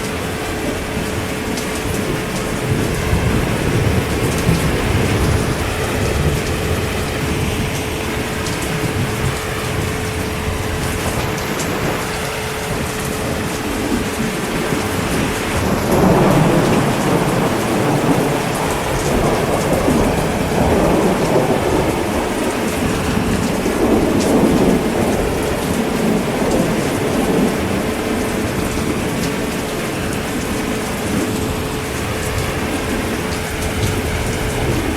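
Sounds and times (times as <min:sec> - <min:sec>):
heavy rain: 0:00.0 - 0:34.9
thunder rumbling: 0:00.0 - 0:34.9.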